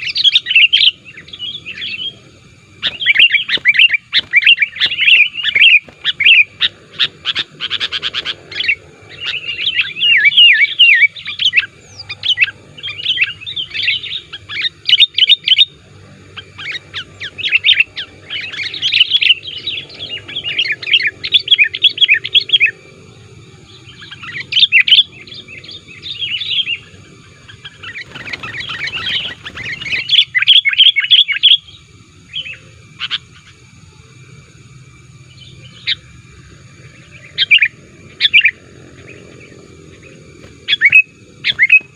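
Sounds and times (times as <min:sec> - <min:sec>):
bulbul chattering: 0:00.0 - 0:41.9.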